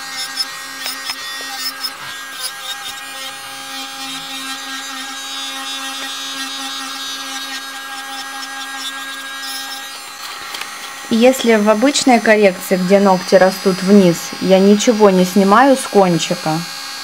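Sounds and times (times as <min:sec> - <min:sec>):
electric nail drill filing: 0:00.0 - 0:17.0.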